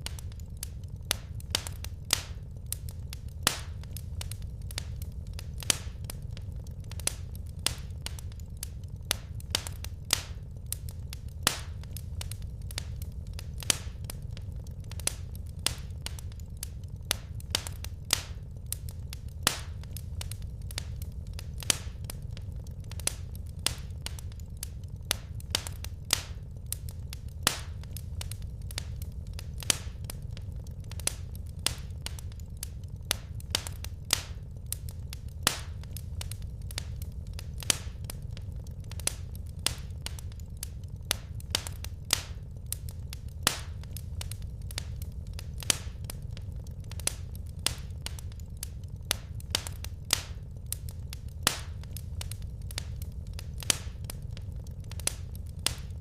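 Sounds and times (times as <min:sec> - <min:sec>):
low rumble: 0:00.0 - 0:56.0
wood fire crackling and popping: 0:00.0 - 0:56.0.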